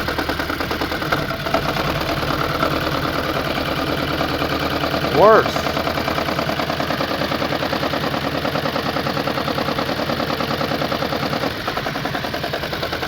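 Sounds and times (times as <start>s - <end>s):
engine idling with knock and misfire: 0.0s - 13.0s.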